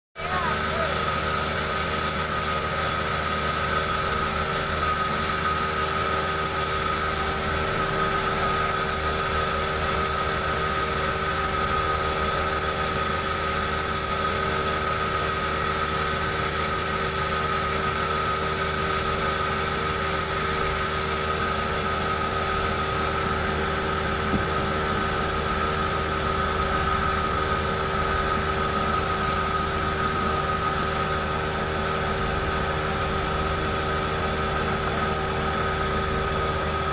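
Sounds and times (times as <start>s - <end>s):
chainsaw cutting a log: 0.2s - 36.9s.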